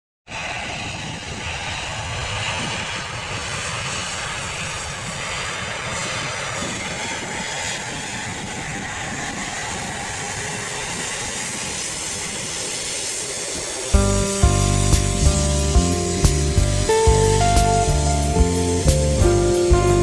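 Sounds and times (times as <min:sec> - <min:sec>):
high jet whine: 0:00.3 - 0:20.0
jet engines roaring: 0:00.3 - 0:20.0.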